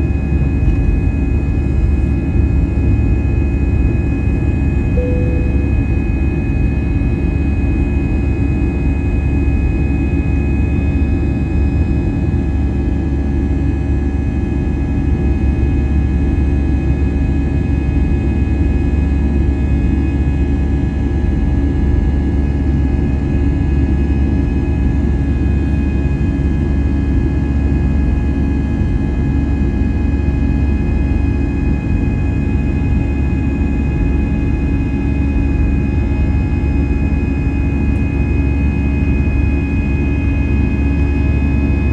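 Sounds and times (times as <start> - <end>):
jet engine cabin drone: 0.0 - 41.9.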